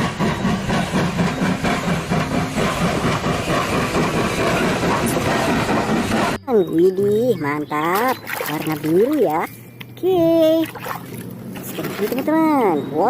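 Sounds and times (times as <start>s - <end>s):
train running with clickety-clack: 0.0s - 13.0s.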